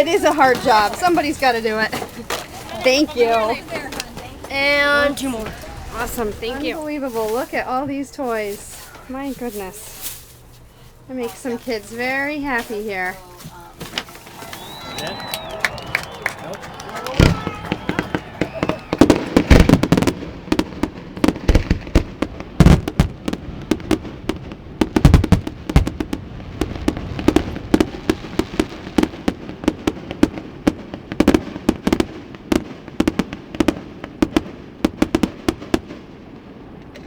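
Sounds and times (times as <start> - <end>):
fireworks bangs: 0.0 - 37.0
fireworks popping and crackling: 0.0 - 37.0.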